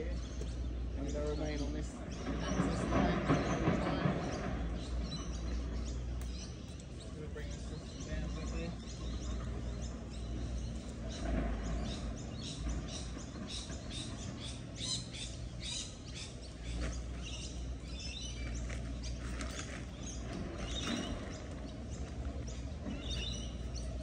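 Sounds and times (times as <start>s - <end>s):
birds chirping: 0.0s - 24.0s
low steady rumble: 0.0s - 24.0s.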